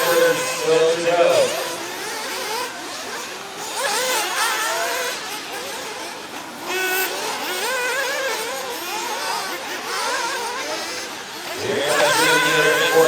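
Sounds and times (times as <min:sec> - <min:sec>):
small engines revving: 0:00.0 - 0:13.0.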